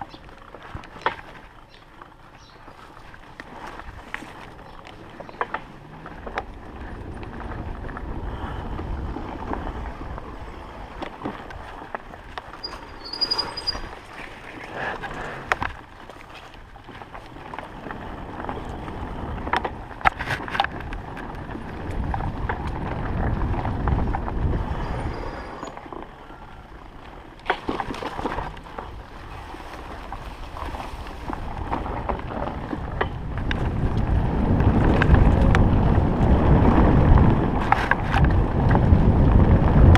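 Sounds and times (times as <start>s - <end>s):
tyre noise on dirt road: 0.0s - 39.9s
wind buffeting microphone: 2.4s - 39.9s.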